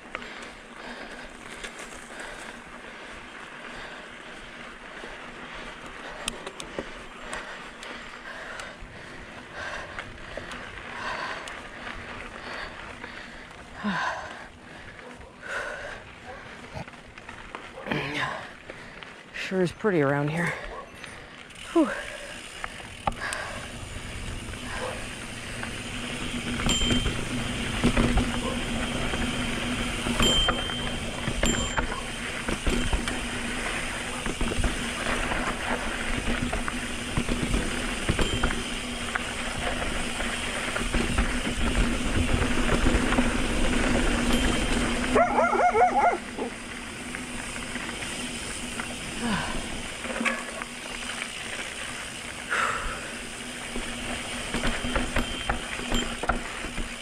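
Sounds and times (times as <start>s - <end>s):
bike tyre and drivetrain rumble: 0.0s - 57.0s.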